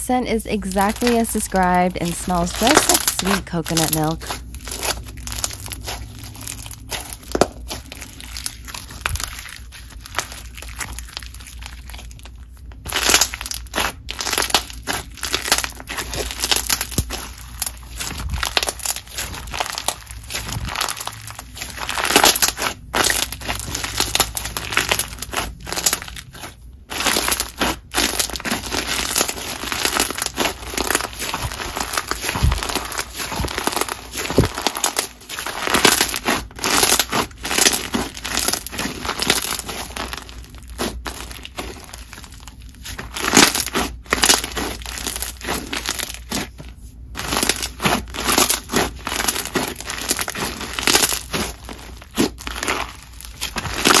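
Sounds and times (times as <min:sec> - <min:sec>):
slime crunching and crackling: 0:00.0 - 0:54.0.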